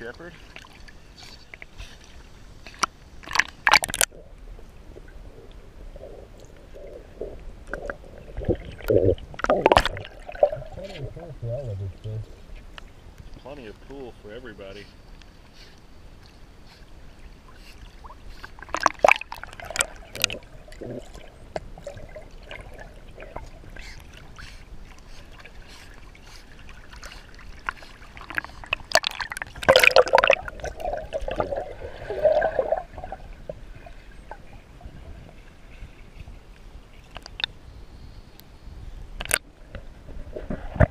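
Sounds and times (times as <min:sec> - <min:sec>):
water lapping and sloshing: 0:00.0 - 0:37.7.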